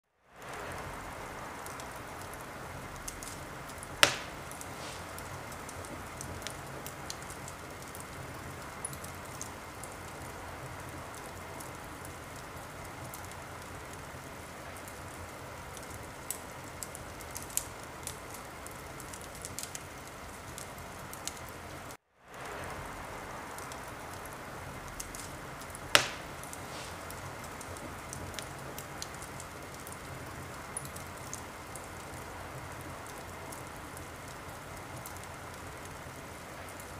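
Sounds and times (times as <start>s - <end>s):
fire crackling and popping: 0.2s - 36.9s
fire hissing: 0.3s - 36.9s.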